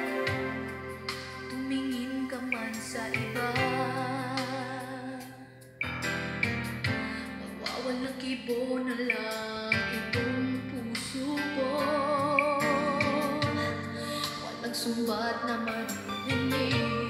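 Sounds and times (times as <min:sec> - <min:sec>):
music with singing over speakers: 0:00.0 - 0:17.0.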